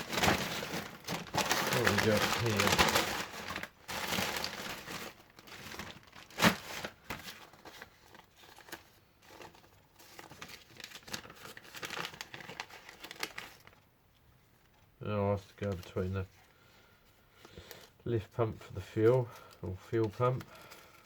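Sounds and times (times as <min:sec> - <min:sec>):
packaging crinkling and rustling: 0:00.0 - 0:13.9, 0:14.6 - 0:16.5, 0:17.4 - 0:21.0.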